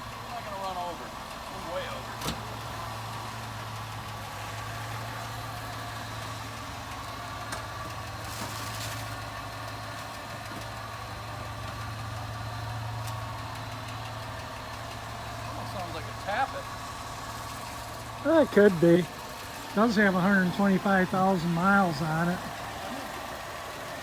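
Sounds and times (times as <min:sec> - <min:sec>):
engine ticking: 0:00.0 - 0:08.3, 0:08.9 - 0:24.0
car engine idling: 0:00.0 - 0:24.0.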